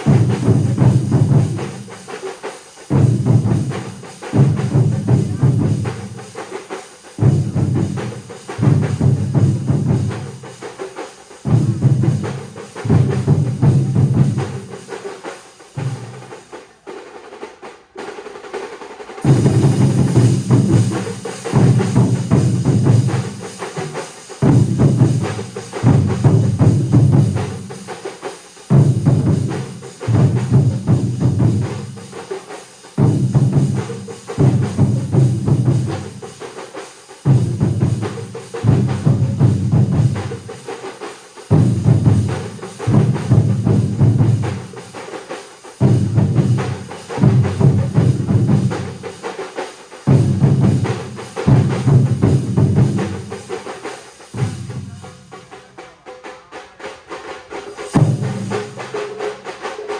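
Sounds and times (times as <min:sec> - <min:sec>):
ensemble of drummers playing: 0:00.0 - 0:59.9.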